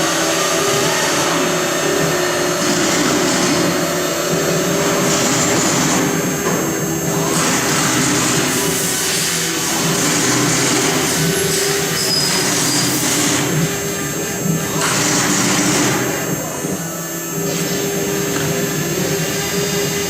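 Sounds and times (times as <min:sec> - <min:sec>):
bit engraving wood: 0:00.0 - 0:20.0
router spindle high whine: 0:00.0 - 0:20.0.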